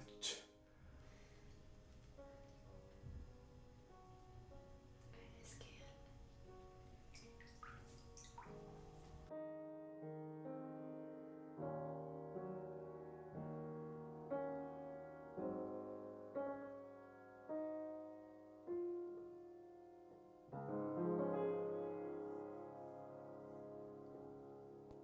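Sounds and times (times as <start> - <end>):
slow soft piano chords: 0.0 - 25.0.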